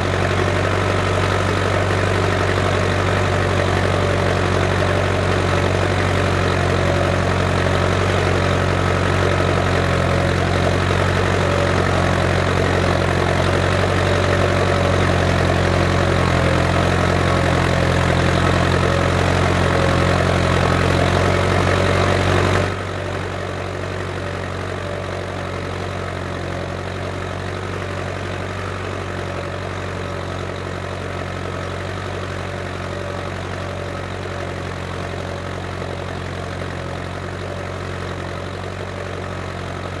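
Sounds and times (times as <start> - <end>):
tractor diesel engine drone: 0.0 - 40.0.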